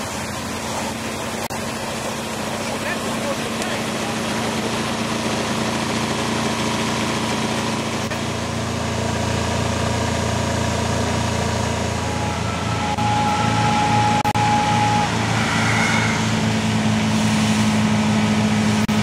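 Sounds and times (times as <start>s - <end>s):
steady whine: 0.0s - 19.0s
vacuum unit engine running: 0.0s - 19.0s.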